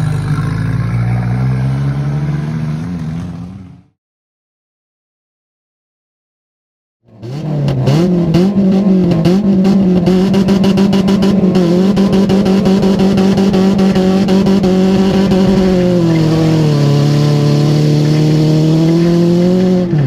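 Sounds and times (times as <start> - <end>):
car engine revving: 0.0 - 4.0, 7.1 - 20.0.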